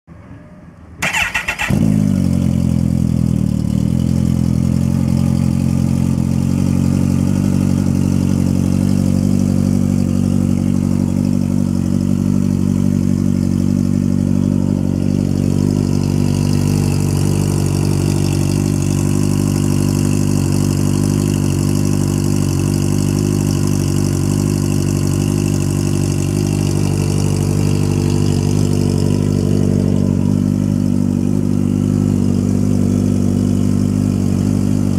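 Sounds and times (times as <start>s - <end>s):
motorcycle engine starting and idling: 1.0s - 34.9s.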